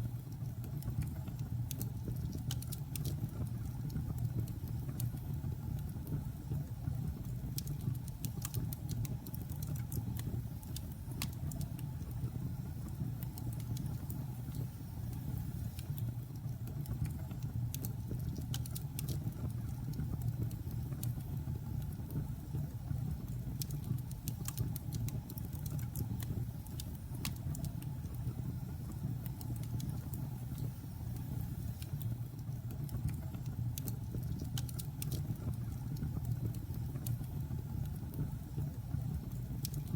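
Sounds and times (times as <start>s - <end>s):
burning logs crackling and popping: 7.3s - 39.9s.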